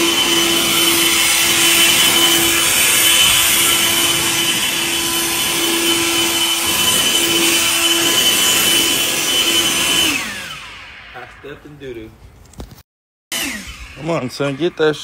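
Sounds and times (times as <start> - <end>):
leaf blower whining: 0.0 - 11.4, 13.3 - 15.0.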